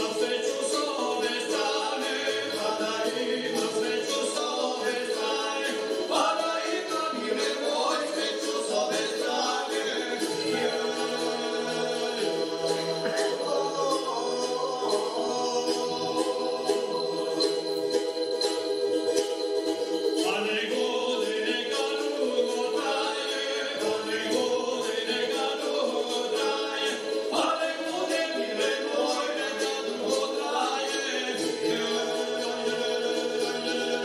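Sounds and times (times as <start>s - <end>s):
two men singing: 0.0s - 17.0s, 20.2s - 34.0s
light jingling beat: 0.0s - 34.0s.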